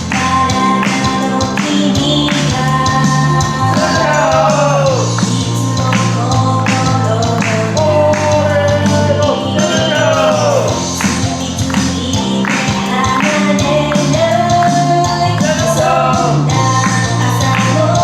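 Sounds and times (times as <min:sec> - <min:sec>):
band backing track: 0:00.0 - 0:18.0
woman singing pop song: 0:00.0 - 0:18.0.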